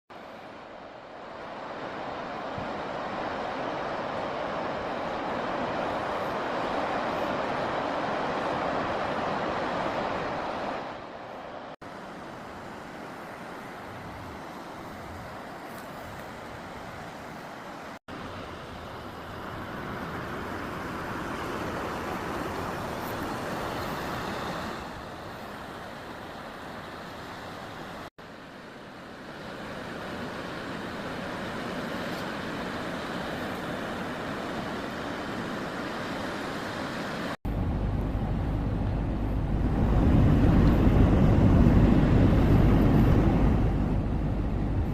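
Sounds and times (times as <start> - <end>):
river rushing: 0.1 - 44.9.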